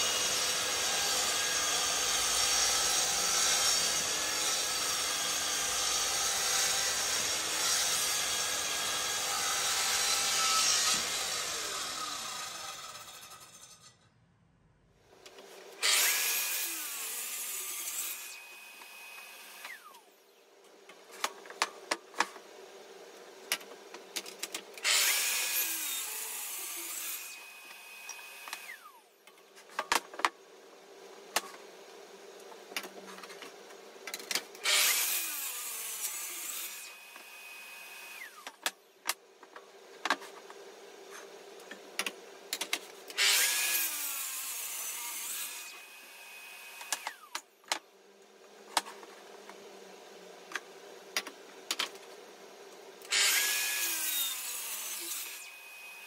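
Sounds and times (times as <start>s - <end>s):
power saw cutting wood: 0.0s - 14.0s, 15.2s - 29.1s, 31.2s - 38.9s, 40.2s - 47.9s, 52.2s - 56.0s.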